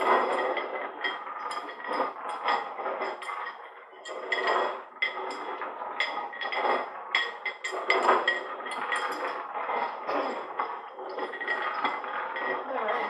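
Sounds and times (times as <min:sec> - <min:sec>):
glass rattling on wooden table: 0:00.0 - 0:13.0.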